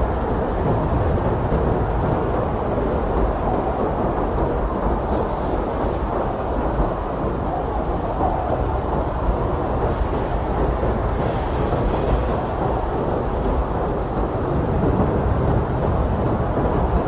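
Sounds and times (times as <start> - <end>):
blizzard wind blowing hard: 0.0 - 17.0.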